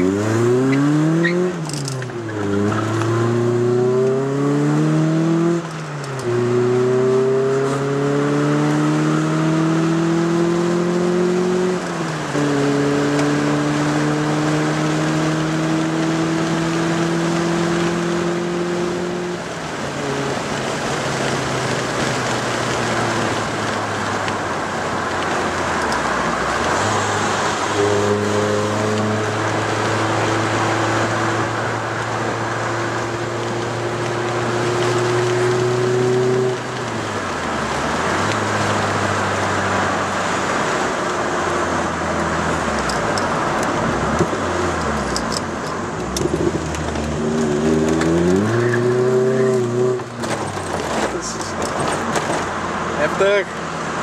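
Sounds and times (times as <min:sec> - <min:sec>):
car engine revving: 0:00.0 - 0:54.0
tyre and road noise: 0:00.0 - 0:54.0.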